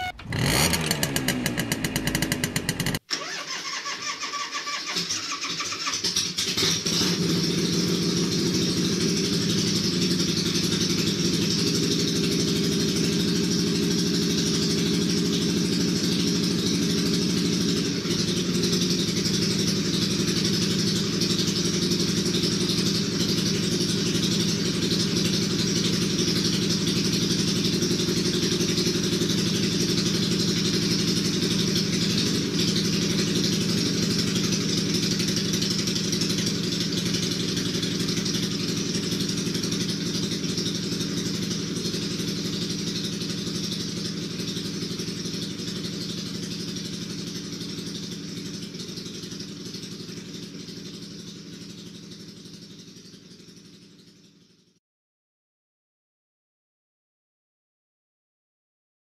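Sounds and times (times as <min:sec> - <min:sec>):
motorcycle engine idling: 0:00.0 - 0:03.0, 0:06.1 - 0:54.8.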